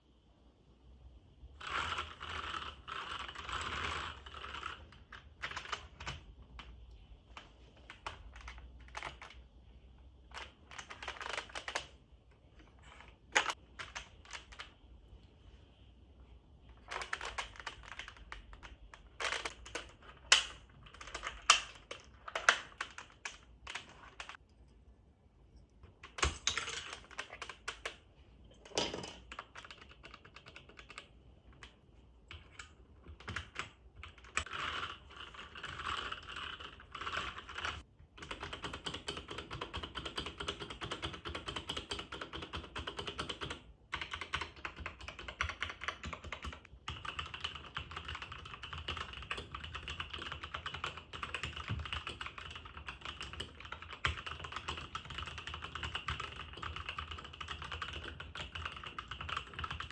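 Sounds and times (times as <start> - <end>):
keyboard typing: 1.6 - 6.7, 7.3 - 9.4, 10.2 - 14.8, 16.7 - 24.4, 25.8 - 59.9.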